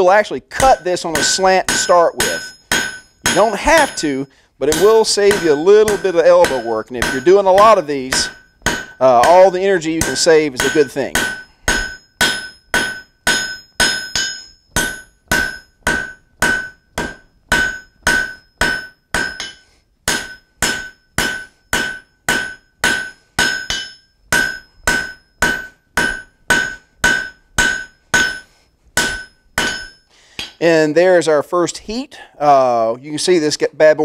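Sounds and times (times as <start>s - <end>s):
hammer striking iron on anvil: 0.6s - 30.6s.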